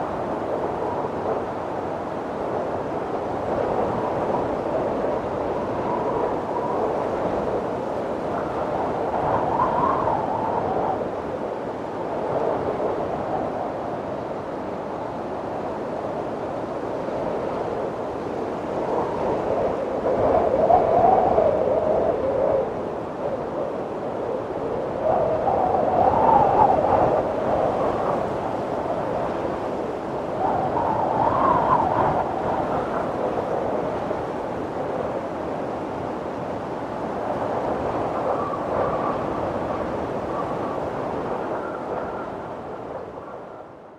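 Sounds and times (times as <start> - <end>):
wind through bamboo: 0.0 - 43.9.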